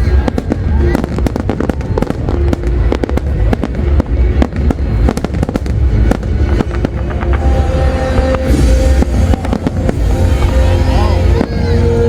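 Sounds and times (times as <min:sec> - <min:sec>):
fireworks sharp bangs: 0:00.0 - 0:12.0
low rumble of bursts: 0:00.0 - 0:12.0.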